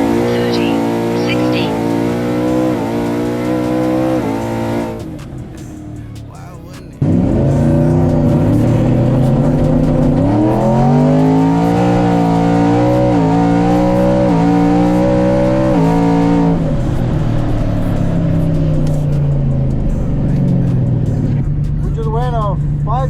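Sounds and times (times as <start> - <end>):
truck engine at full throttle: 0.0 - 23.0.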